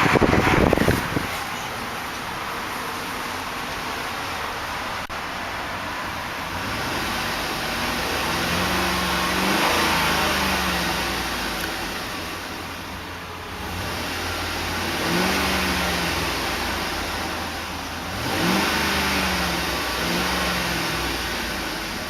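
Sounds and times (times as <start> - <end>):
car engine revving: 0.0 - 2.0, 2.8 - 22.0.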